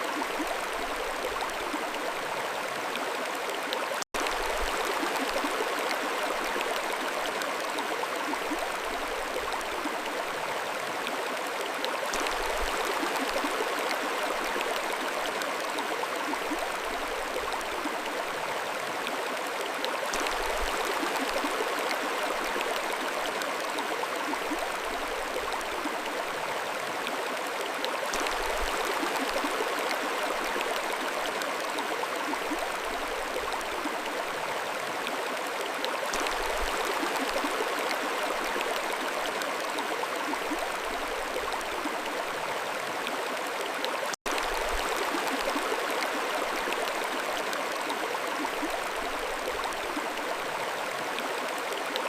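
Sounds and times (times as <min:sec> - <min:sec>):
mountain stream flowing: 0:00.0 - 0:52.0.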